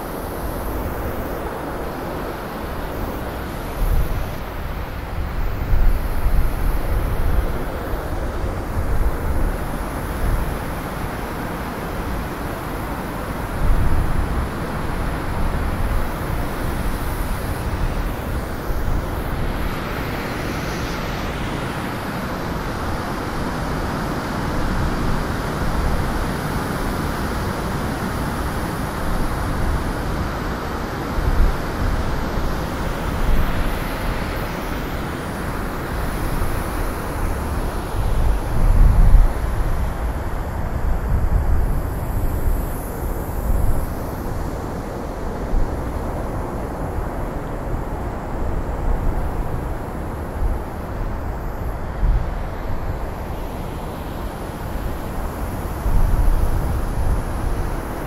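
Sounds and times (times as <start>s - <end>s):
snowstorm wind gusting: 0.0s - 58.0s.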